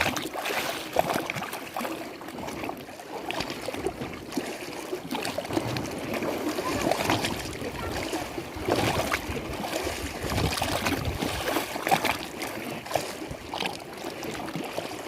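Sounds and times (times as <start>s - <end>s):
lake water lapping: 0.0s - 15.0s.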